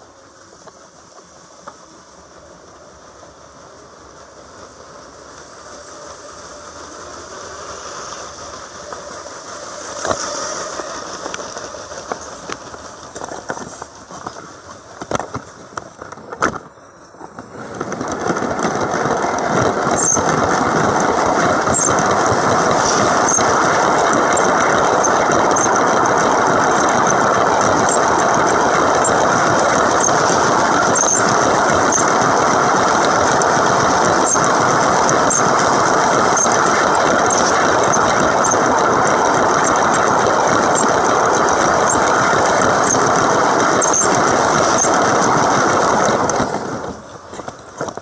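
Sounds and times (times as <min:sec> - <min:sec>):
wheel rumble on track: 0:00.0 - 0:48.0
toy train motor whir: 0:04.0 - 0:16.4, 0:17.2 - 0:48.0.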